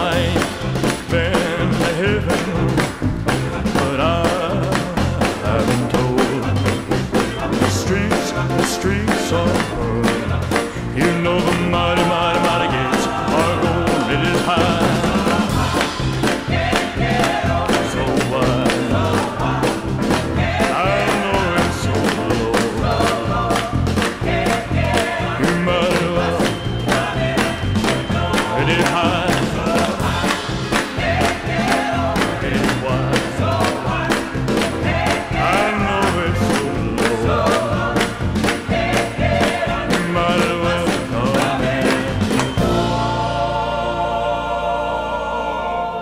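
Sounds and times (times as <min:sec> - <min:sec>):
steady beat: 0:00.0 - 0:43.8
backing choir singing: 0:00.0 - 0:46.0
up-tempo gospel song: 0:00.0 - 0:46.0.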